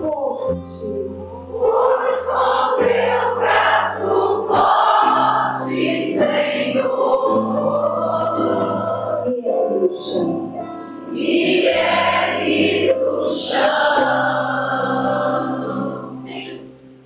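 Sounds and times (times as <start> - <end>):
voices singing worship song: 0.0 - 16.7.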